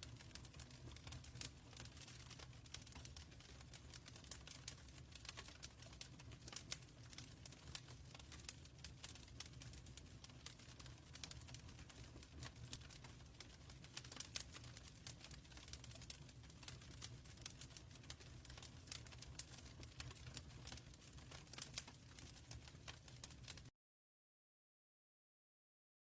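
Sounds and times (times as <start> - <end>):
wood fire crackling and popping: 0.0 - 23.7.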